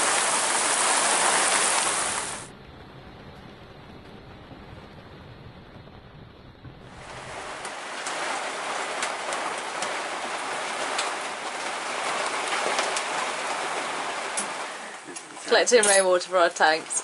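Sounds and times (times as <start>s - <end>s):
heavy rain hissing: 0.0s - 17.0s
raindrops tapping: 0.0s - 17.0s.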